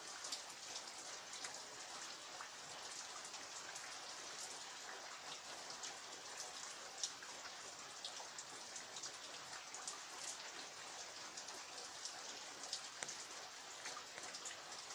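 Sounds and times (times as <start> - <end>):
raindrops striking close by: 0.0 - 14.9
steady rain hiss: 0.0 - 14.9.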